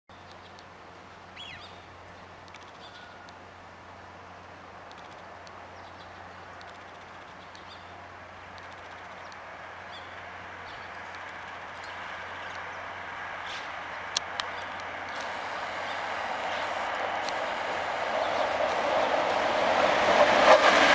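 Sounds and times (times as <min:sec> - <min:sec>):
outdoor background noise: 0:00.1 - 0:20.9.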